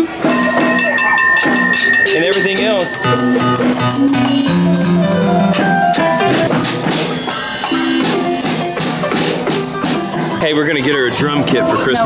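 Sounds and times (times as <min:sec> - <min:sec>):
held keyboard notes: 0:00.0 - 0:12.0
tambourine and drum hits: 0:00.2 - 0:10.8.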